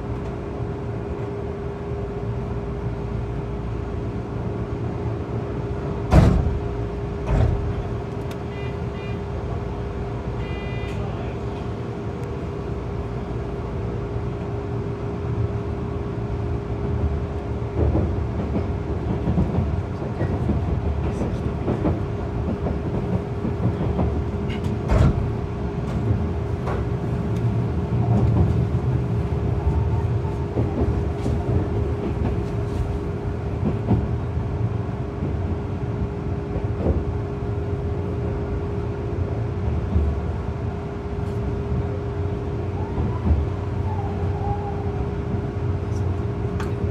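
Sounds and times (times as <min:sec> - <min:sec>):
wheels rumbling on rail: 0:00.0 - 0:46.9.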